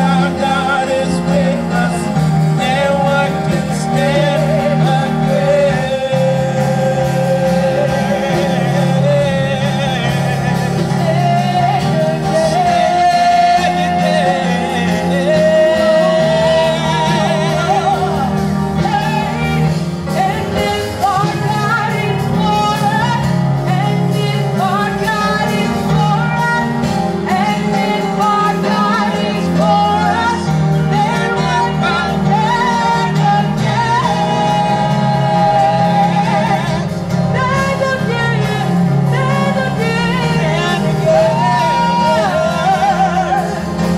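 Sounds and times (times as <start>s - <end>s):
instrumental backing music: 0.0s - 43.9s
person singing gospel: 0.0s - 43.9s.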